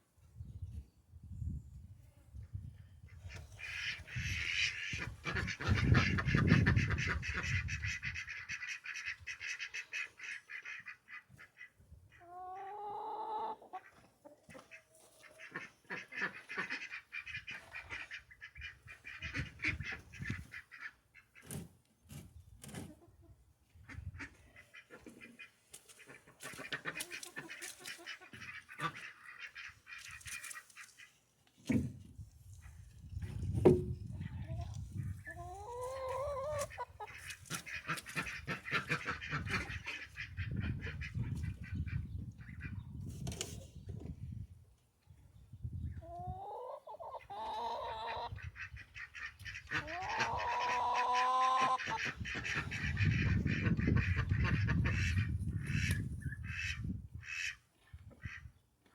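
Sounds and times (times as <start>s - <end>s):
ducks quacking and chattering: 2.6s - 21.6s, 23.0s - 31.8s, 34.1s - 43.0s, 46.1s - 58.6s.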